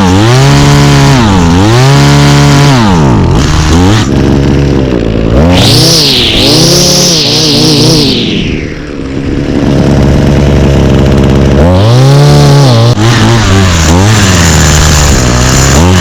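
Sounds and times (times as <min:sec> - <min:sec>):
string trimmer engine revving: 0:00.0 - 0:16.0.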